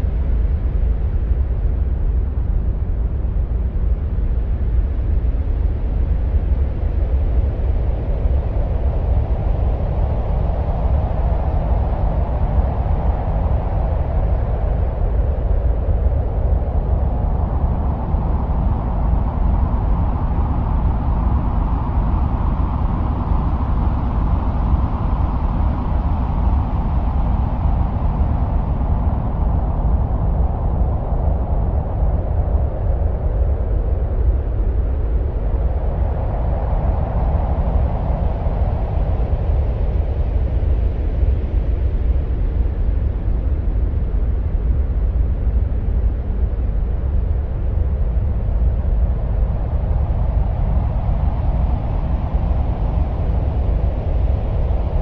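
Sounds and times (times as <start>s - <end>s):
deep wind-like rumbling: 0.0s - 55.0s.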